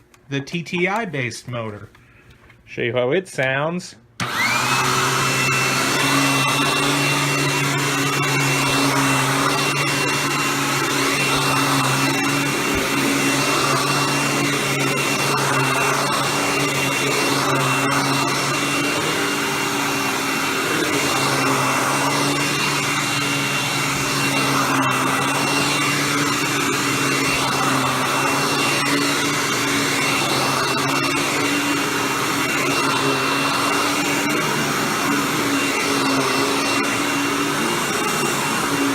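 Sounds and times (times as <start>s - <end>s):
vacuum cleaner running: 4.2s - 38.9s.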